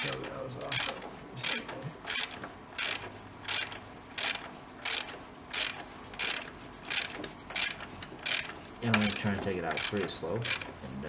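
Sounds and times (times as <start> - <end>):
ratchet wrench clicking: 0.0 - 10.8.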